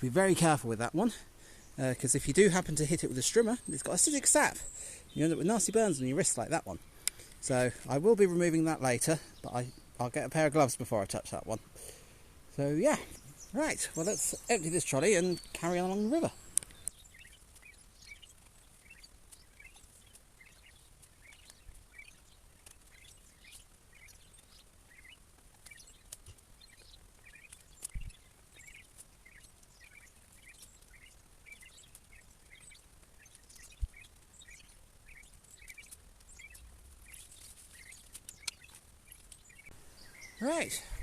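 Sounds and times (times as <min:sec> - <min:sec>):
faint outdoor background noise: 0:00.0 - 0:41.0
small birds chirping: 0:00.0 - 0:41.0.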